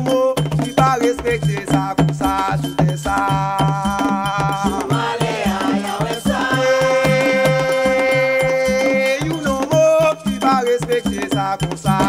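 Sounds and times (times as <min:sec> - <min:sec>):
song over drum beat: 0:00.0 - 0:12.0.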